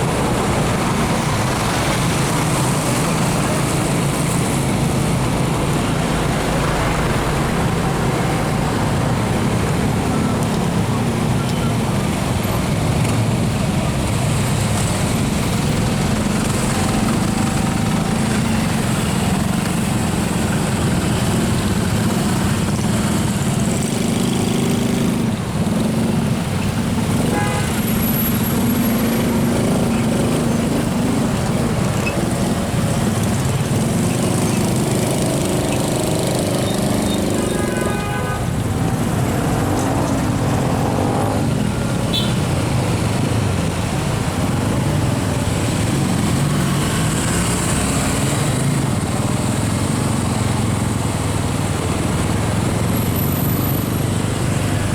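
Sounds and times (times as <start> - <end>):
motorcycle and car engines: 0.0 - 54.9.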